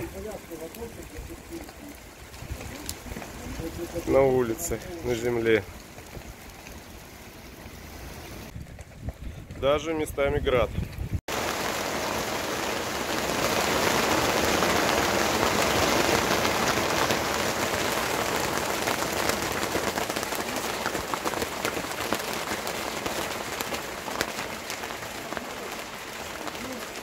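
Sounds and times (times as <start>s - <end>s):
heavy rain and hail on canvas: 0.0s - 9.8s, 10.8s - 27.0s.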